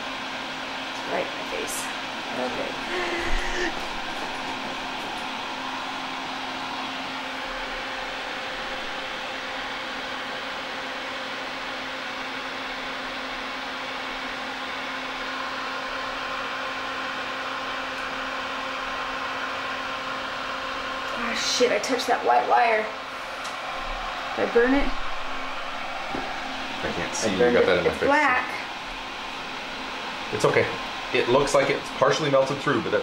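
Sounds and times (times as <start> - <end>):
fan whirring with hiss: 0.0 - 33.0.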